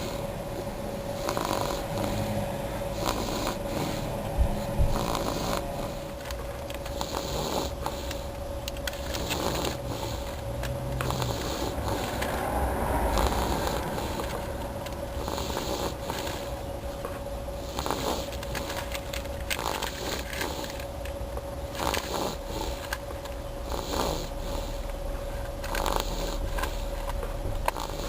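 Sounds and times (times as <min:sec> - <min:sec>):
baby snoring: 0:00.0 - 0:06.2, 0:06.9 - 0:16.7, 0:17.6 - 0:18.8, 0:19.5 - 0:20.9, 0:21.7 - 0:22.9, 0:23.6 - 0:24.9, 0:25.6 - 0:27.0, 0:27.6 - 0:28.0
steady hum: 0:00.0 - 0:28.0.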